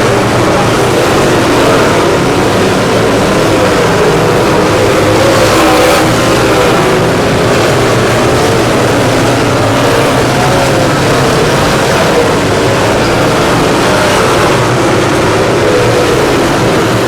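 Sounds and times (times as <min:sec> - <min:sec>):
race car engines running hard: 0:00.0 - 0:17.0.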